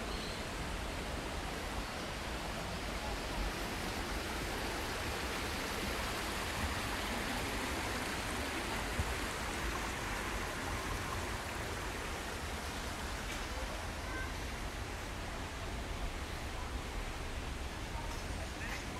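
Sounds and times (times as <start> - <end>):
steady outdoor hiss: 0.0 - 18.9.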